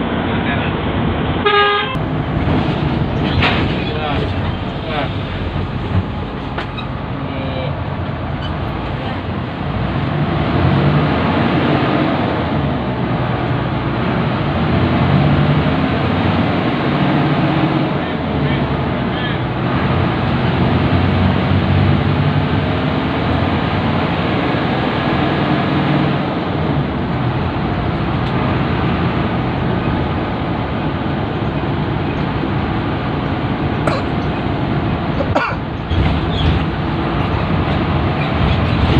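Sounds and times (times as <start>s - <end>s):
bus engine and road noise: 0.0s - 38.9s.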